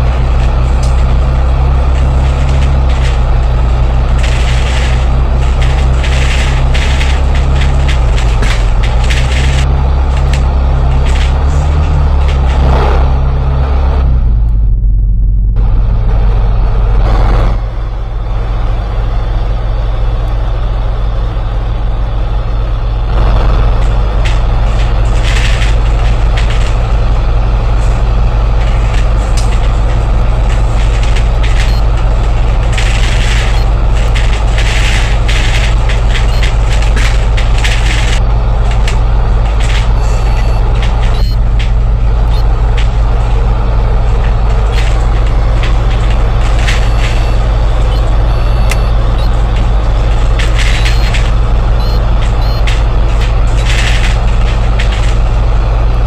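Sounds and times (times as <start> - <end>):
bus engine drone: 0.0 - 56.0.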